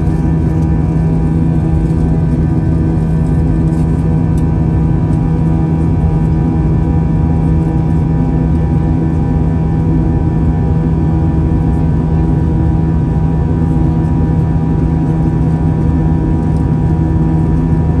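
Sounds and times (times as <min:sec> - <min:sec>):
jet engine cabin drone: 0:00.0 - 0:18.0.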